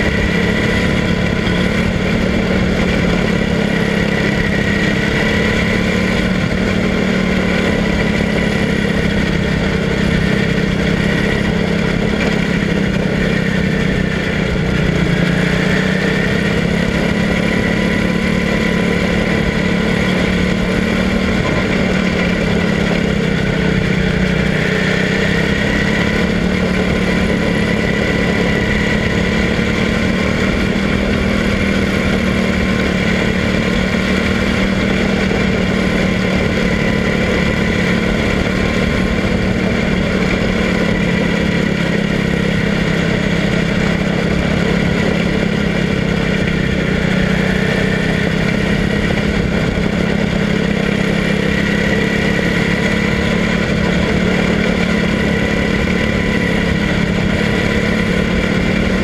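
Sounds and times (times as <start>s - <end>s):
small race car engine running: 0.0s - 59.0s.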